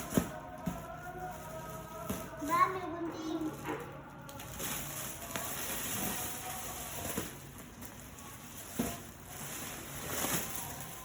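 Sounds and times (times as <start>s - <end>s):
packaging rustling and crackling: 0.0s - 11.0s.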